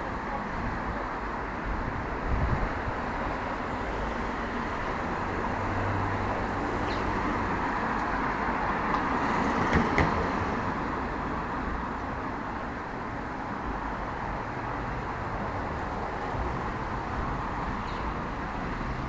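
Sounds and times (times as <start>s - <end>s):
cars passing on road: 0.0s - 19.0s.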